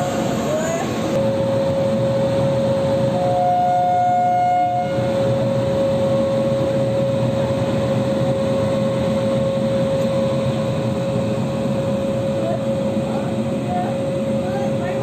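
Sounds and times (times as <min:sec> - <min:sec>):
broad rushing hum: 0:00.0 - 0:03.5, 0:04.6 - 0:15.0.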